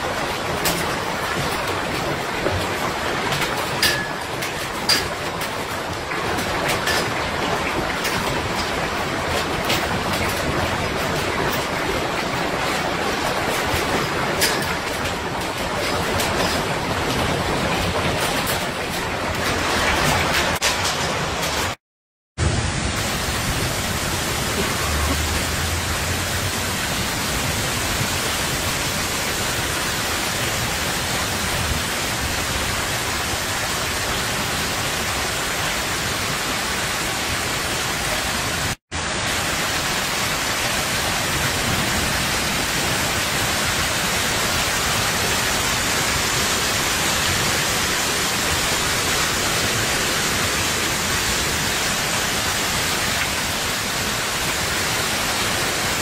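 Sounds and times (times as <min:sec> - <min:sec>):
heavy rain falling: 0:00.0 - 0:21.8, 0:22.4 - 0:56.0.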